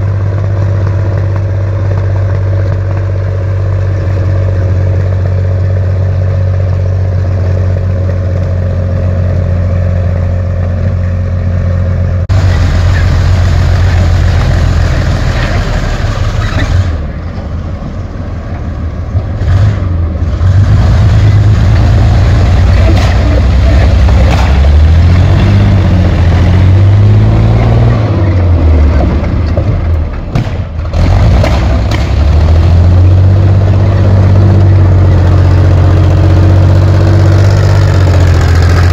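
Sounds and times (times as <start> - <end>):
tracked vehicle engine revving: 0.0 - 17.4, 19.1 - 38.9.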